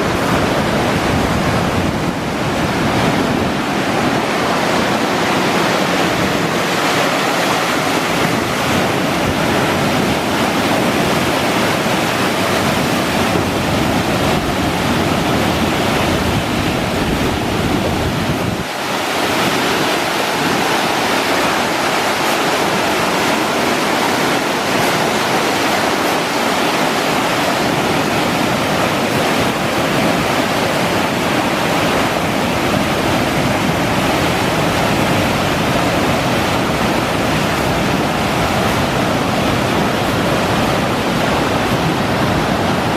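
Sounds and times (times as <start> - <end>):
fast stream water rushing: 0.0 - 42.9.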